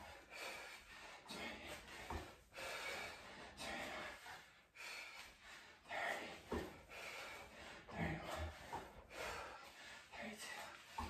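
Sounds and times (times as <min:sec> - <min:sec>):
man breathing heavily: 0:00.0 - 0:11.0.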